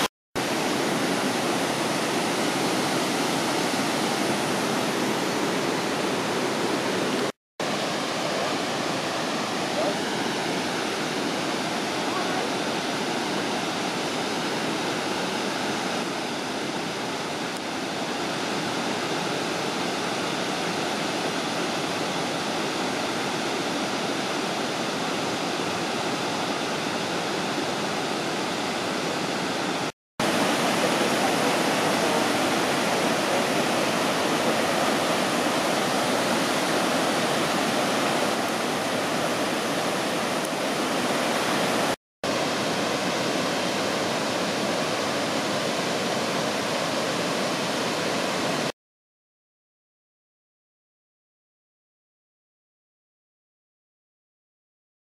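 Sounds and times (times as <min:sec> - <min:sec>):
waterfall rushing: 0:00.0 - 0:48.7.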